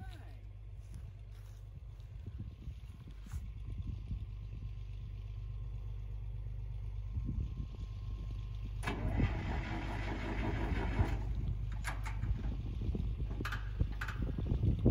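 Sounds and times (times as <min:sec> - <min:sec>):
tractor engine low rumble: 0:00.0 - 0:14.9.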